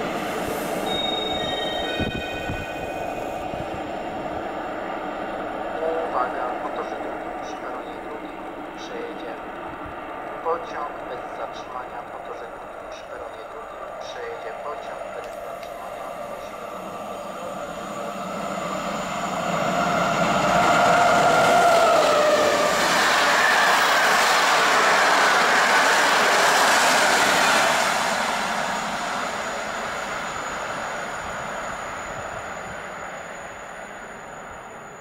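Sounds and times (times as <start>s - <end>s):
electric locomotive whine: 0.0s - 35.0s
train coaches rushing past: 0.0s - 35.0s.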